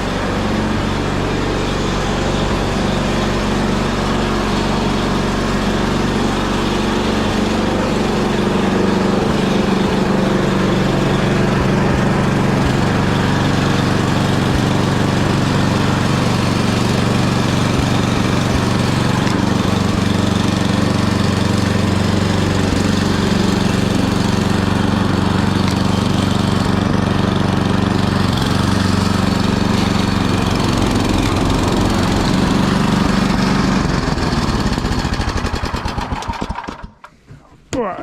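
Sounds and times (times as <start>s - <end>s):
snow blower engine running: 0.0s - 37.1s.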